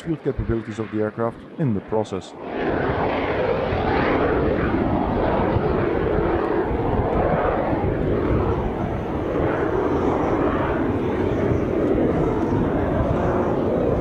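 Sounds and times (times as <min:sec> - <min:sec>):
jet engine roaring at takeoff: 0:00.0 - 0:14.0.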